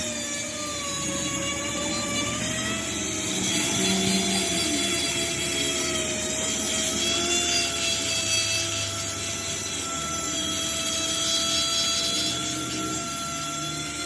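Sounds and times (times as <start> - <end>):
workshop machine whining: 0.0 - 14.0.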